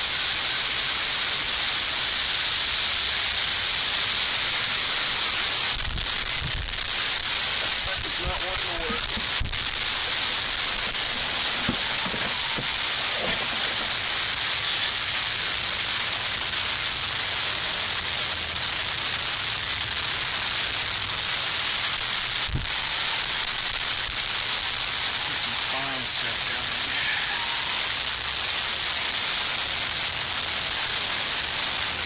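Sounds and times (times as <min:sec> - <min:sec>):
alcohol stove hissing: 0:00.0 - 0:32.0.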